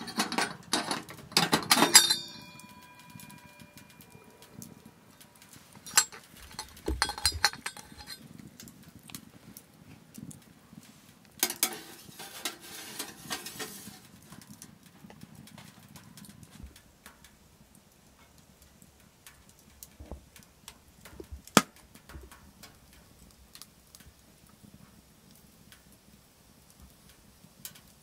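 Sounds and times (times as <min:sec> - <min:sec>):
sharp pops of fire: 0:00.0 - 0:28.0
wood fire crackling: 0:00.0 - 0:28.0.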